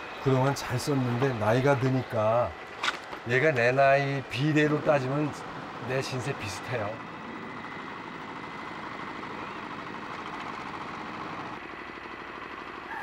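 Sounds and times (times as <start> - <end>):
power tiller engine running: 0.0 - 13.0.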